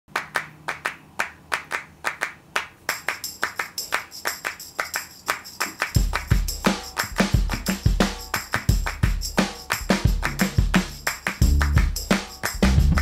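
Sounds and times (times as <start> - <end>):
quick patterned claps: 0.1 - 13.0.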